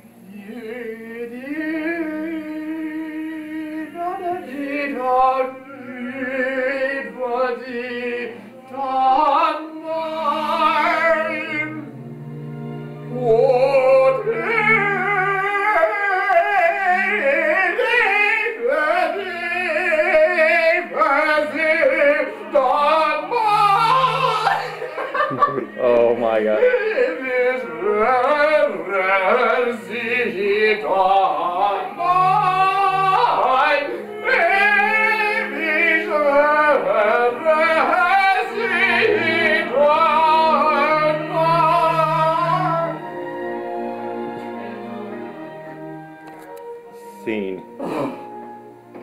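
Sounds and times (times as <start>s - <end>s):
man singing operatically: 0.2s - 11.9s, 13.1s - 44.3s.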